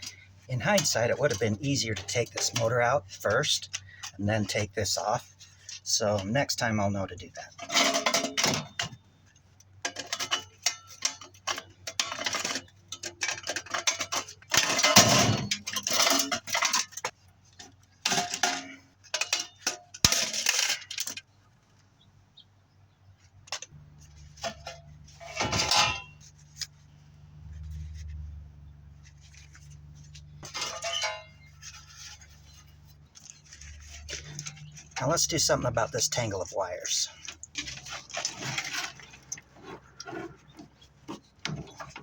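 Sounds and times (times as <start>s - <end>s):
metal tools clinking: 0.0s - 9.0s, 9.8s - 21.3s, 23.5s - 26.8s, 29.0s - 42.0s.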